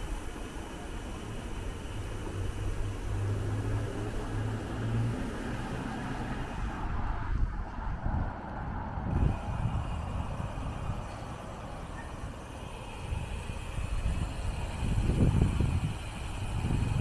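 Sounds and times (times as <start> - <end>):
motor vehicle humming: 0.0 - 17.0
street noise: 0.0 - 17.0.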